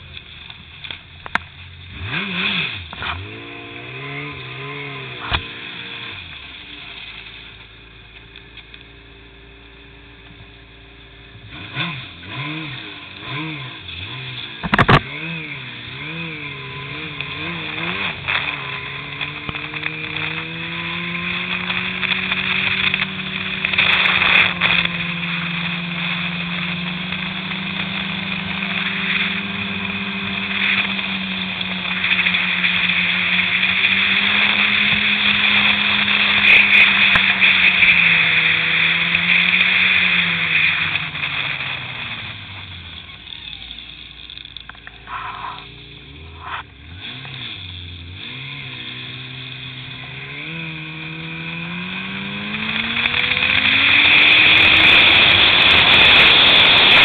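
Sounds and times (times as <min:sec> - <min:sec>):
snowmobile engine revving: 0:00.0 - 0:07.6, 0:10.6 - 0:57.0.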